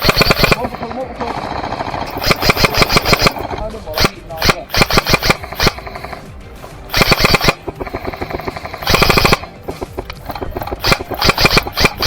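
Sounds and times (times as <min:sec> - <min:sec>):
airsoft gun firing: 0:00.0 - 0:12.0.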